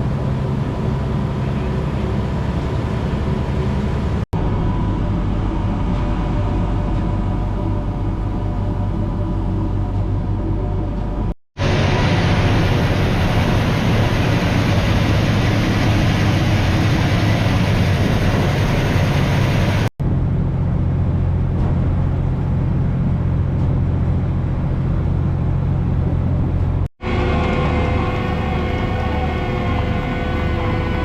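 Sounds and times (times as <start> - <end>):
boat engine drone: 0.0 - 31.0
heavy rushing noise: 0.0 - 31.0.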